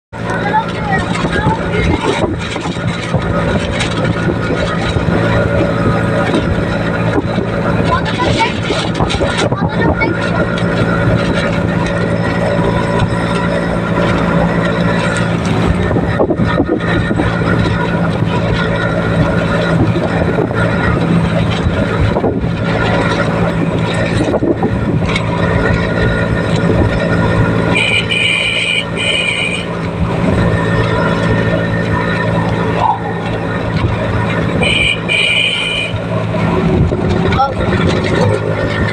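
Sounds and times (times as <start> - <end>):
engine humming: 0.1 - 38.9.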